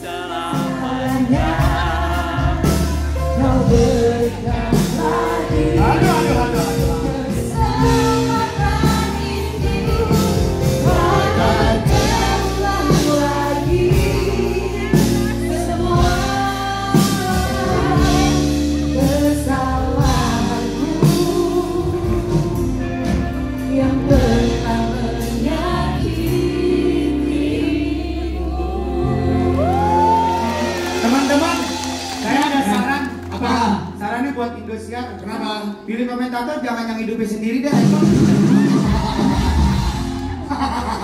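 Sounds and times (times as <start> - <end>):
audience singing along: 0.0 - 32.2, 37.9 - 41.0
lead singer: 0.0 - 33.4
live band playing: 0.0 - 41.0.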